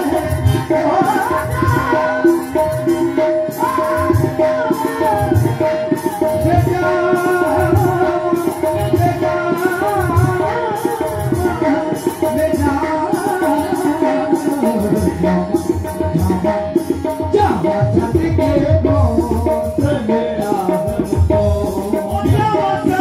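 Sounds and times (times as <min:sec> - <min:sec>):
hand drum beat: 0:00.0 - 0:23.0
rattling percussion: 0:00.0 - 0:23.0.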